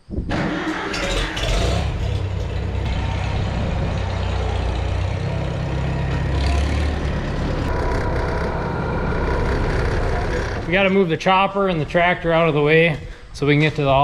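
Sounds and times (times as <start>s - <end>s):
tractor engine idling: 0.5s - 13.1s.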